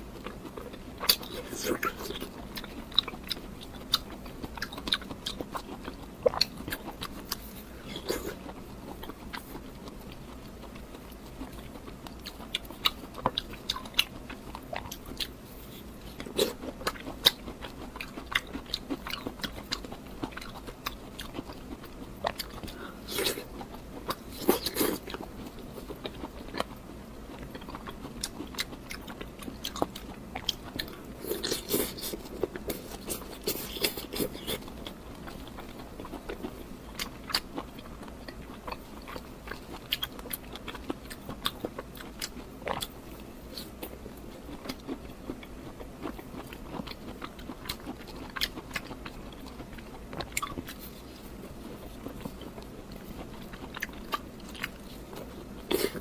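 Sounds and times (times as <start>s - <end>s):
close-miked eating and chewing: 0.0s - 56.0s.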